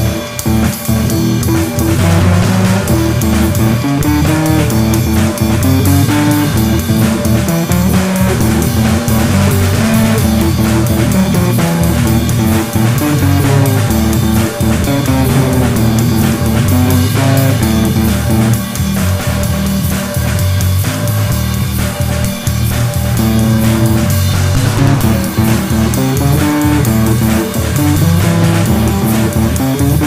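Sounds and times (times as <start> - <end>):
rock music with guitar bass and drums: 0.0 - 30.0.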